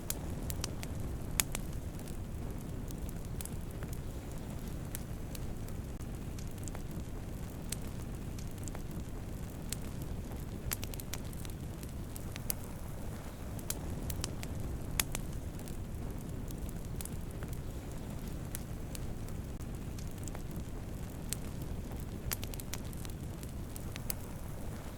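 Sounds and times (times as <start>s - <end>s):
campfire crackling: 0.0s - 24.9s.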